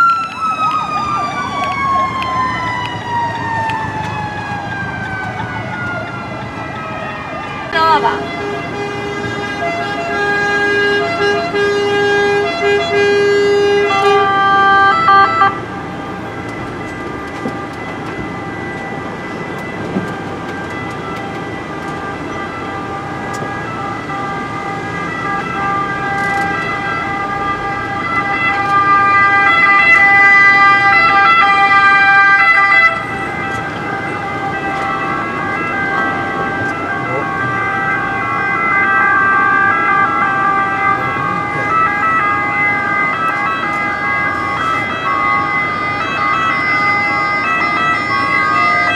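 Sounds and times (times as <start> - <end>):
ambulance two-tone sirens: 0.0 - 48.9.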